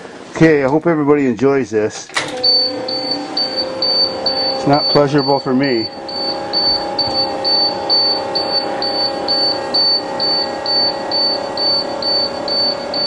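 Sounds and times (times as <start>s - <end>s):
steady hum: 2.1s - 13.0s
high-pitched warning beeps: 2.4s - 13.0s.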